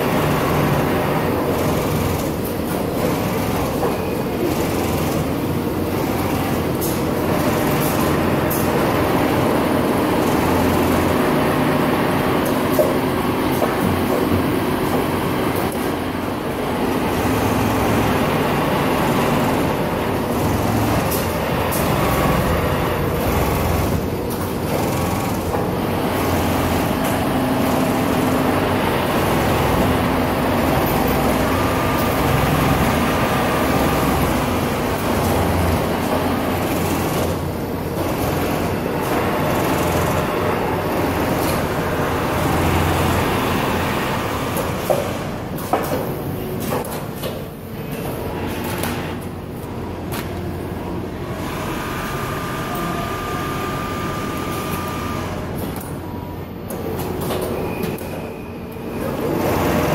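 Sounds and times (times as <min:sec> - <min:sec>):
factory machinery droning: 0:00.0 - 0:59.9.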